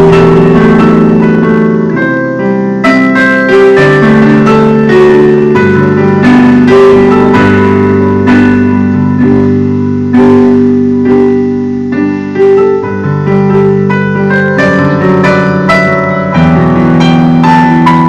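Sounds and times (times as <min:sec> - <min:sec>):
slow gentle piano piece: 0:00.0 - 0:18.0.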